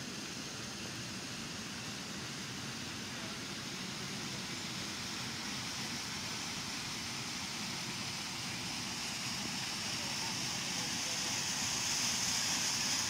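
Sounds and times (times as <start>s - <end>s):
water rushing at dam: 0.8s - 13.0s.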